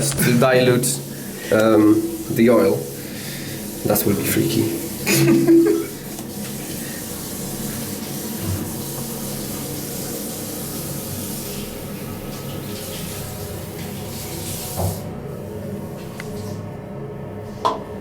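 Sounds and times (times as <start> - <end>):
water running from a tap: 0.0 - 16.6.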